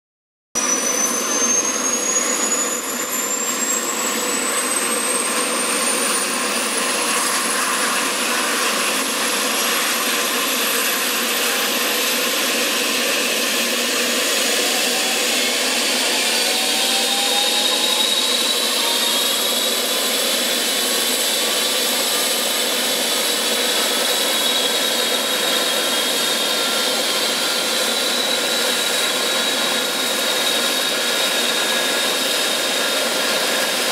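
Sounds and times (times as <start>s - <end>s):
helicopter engine and rotor noise: 0.6s - 33.9s
high turbine whine: 0.6s - 33.9s.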